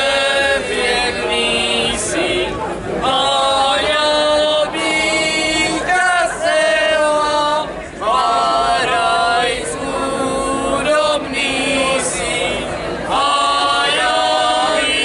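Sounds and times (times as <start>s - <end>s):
group singing folk song unaccompanied: 0.0s - 15.0s.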